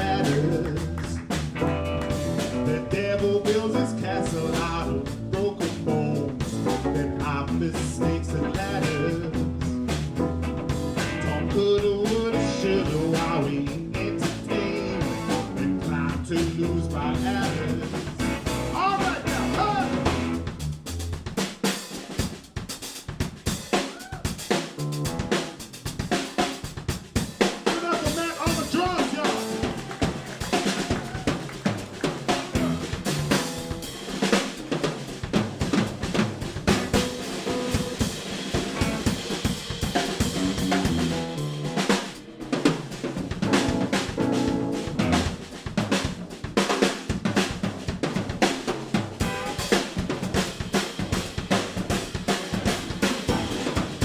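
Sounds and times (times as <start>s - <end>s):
blues band playing: 0.0s - 54.0s
rapid snare and bass drum hits: 0.0s - 54.0s.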